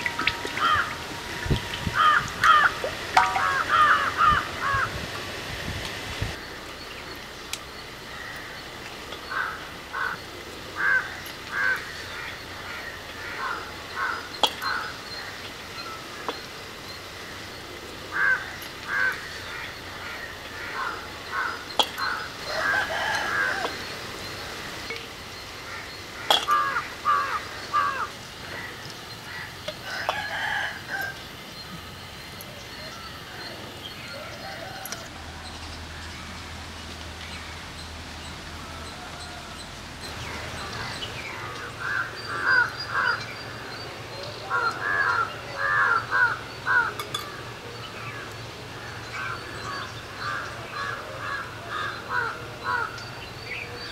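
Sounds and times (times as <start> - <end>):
birds calling: 0.0 - 5.1, 6.0 - 53.9.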